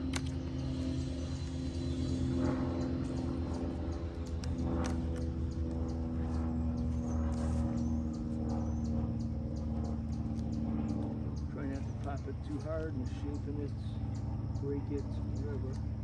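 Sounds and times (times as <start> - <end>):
honeybees humming: 0.0 - 16.0.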